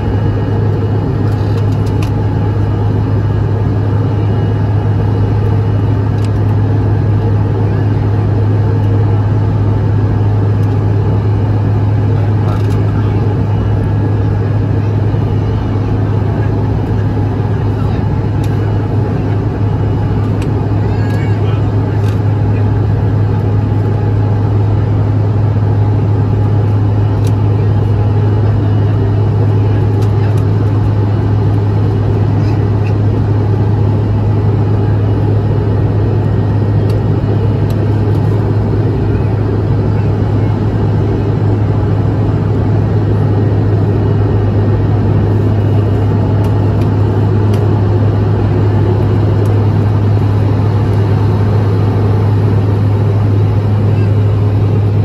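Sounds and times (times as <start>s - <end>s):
airplane engines droning: 0.0s - 55.0s
cabin air noise: 0.0s - 55.0s.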